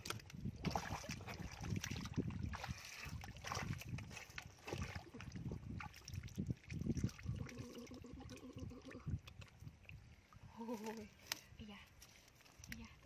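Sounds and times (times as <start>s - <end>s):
feet and hands squelching in mud: 0.0s - 13.0s.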